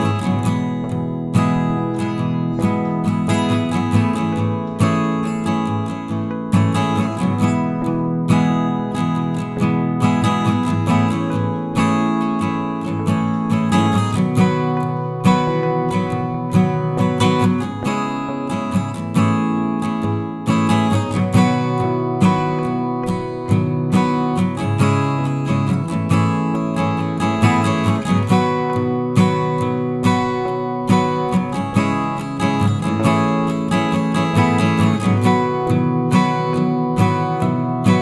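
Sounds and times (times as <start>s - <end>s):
acoustic guitar music: 0.0s - 38.0s.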